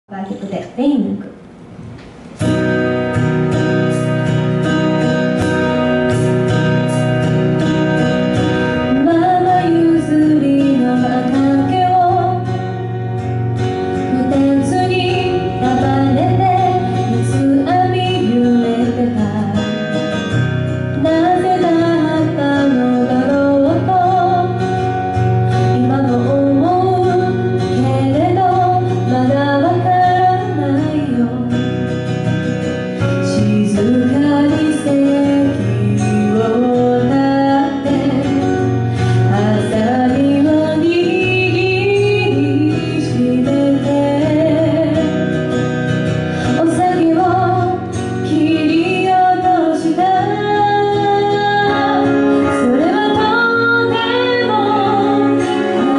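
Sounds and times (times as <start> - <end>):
instrumental accompaniment: 1.7 - 55.9
woman singing into microphone: 3.5 - 32.1, 33.0 - 55.9.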